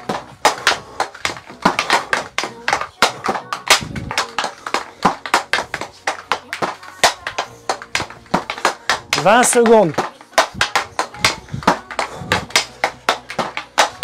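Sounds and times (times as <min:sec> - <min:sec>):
hockey stick tapping puck: 0:00.0 - 0:14.0.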